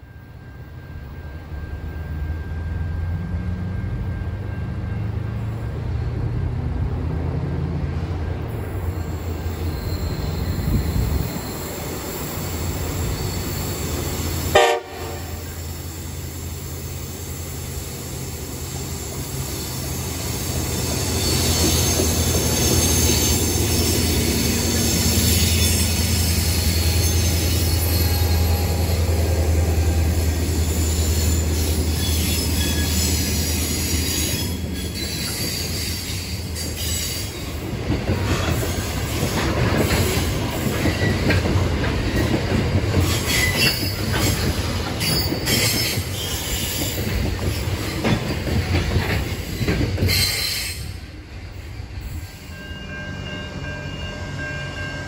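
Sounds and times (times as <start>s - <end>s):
train wheel squeal: 0.0s - 6.1s, 8.2s - 55.0s
diesel locomotive rumble: 0.0s - 55.0s.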